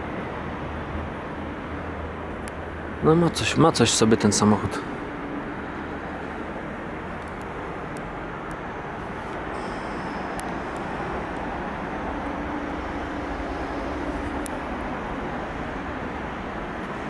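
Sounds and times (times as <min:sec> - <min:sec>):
car engine idling: 0:01.0 - 0:17.0.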